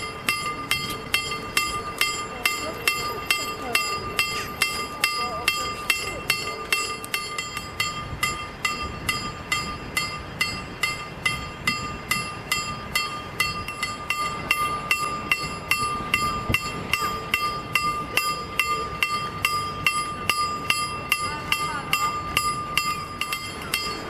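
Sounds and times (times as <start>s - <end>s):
level crossing warning bell: 0.0s - 24.0s.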